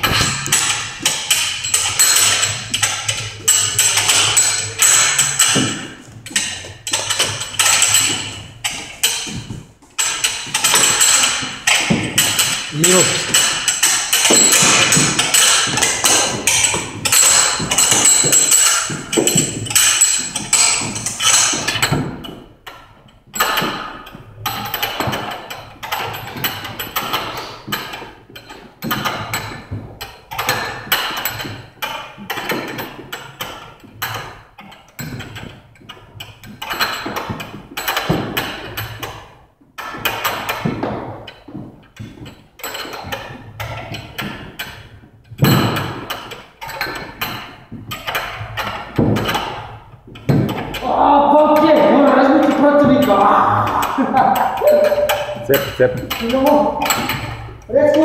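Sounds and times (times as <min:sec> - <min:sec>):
battle ropes slapping floor: 0:00.0 - 0:58.0.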